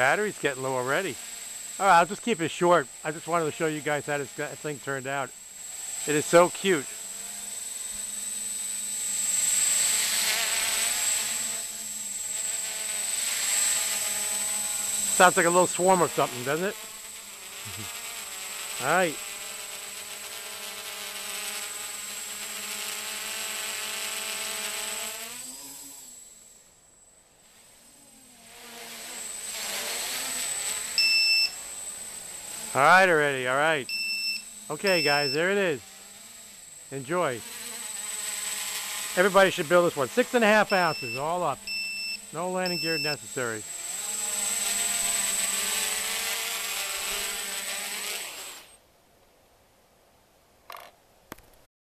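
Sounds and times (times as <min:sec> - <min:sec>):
quadcopter propellers buzzing: 0:00.0 - 0:26.7, 0:27.4 - 0:48.8.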